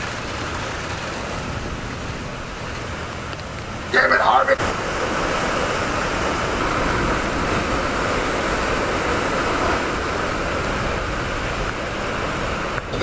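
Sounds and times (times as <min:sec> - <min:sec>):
rushing storm wind: 0:00.0 - 0:13.0.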